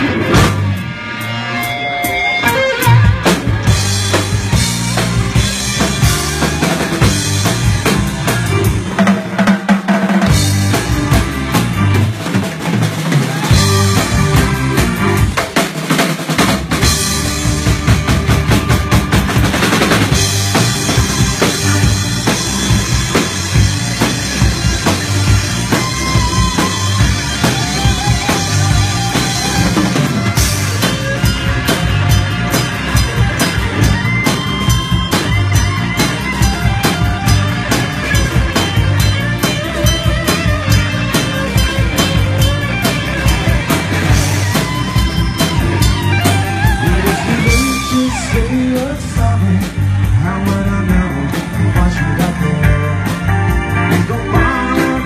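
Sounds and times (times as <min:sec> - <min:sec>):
drums and bass: 0:00.0 - 0:55.0
electric guitar lead lines: 0:00.0 - 0:55.0.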